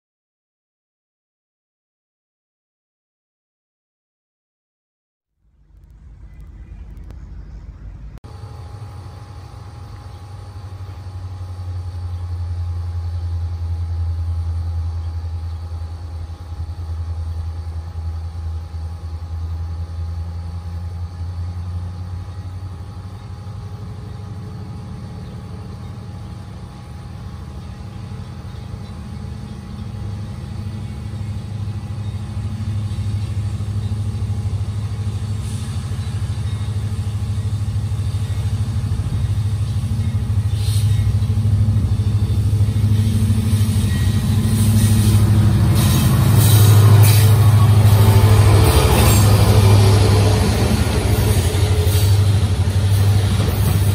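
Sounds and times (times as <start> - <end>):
freight train diesel rumble: 5.4 - 53.9.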